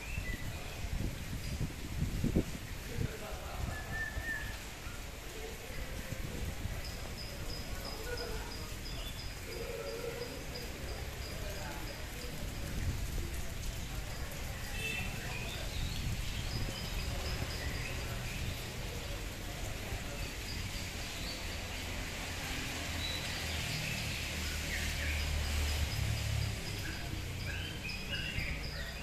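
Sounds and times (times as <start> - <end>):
rain falling: 0.0 - 29.0
birds chirping: 3.2 - 29.0.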